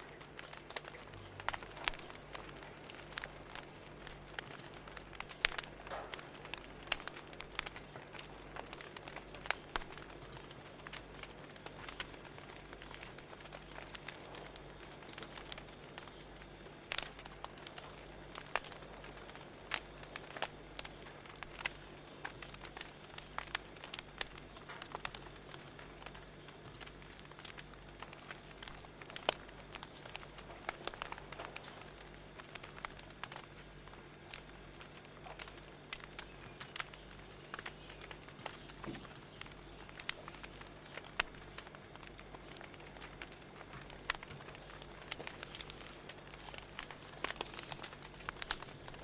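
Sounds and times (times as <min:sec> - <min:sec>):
low steady hum: 0:00.0 - 0:49.0
wood fire crackling: 0:00.0 - 0:49.0.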